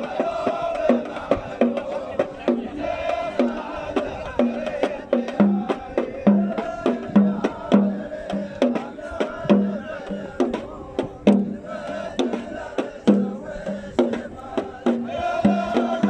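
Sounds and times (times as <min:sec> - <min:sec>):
drums beating: 0:00.0 - 0:16.0
men chanting together: 0:00.0 - 0:16.0.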